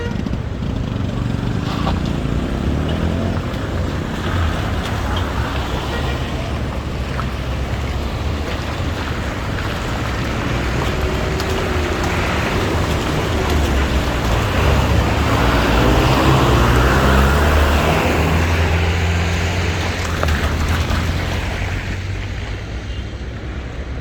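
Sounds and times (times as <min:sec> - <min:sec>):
vehicle passing close: 0:00.0 - 0:22.8
traffic on wet street: 0:00.0 - 0:24.0.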